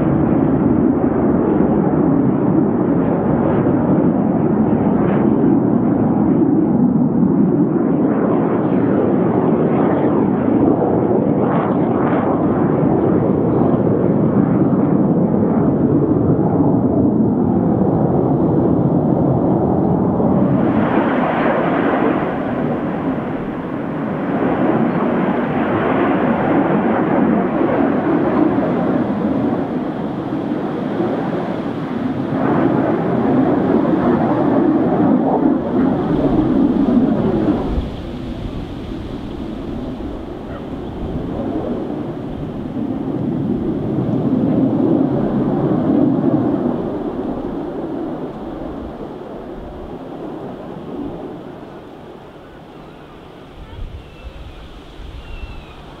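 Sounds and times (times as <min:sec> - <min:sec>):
jet engines flying past: 0:00.0 - 0:56.0.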